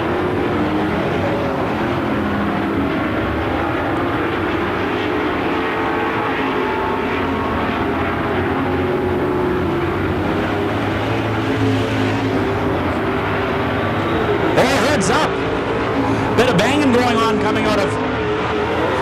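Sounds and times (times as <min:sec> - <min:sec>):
race truck engines droning: 0:00.0 - 0:19.0.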